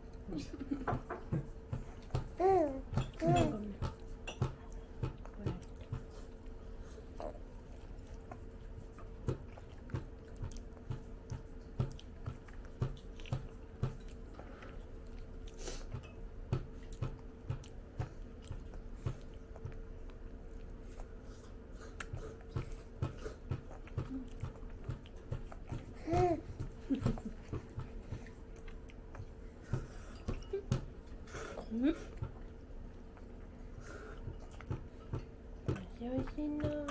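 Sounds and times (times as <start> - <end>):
toddler chewing food: 0.0 - 36.9.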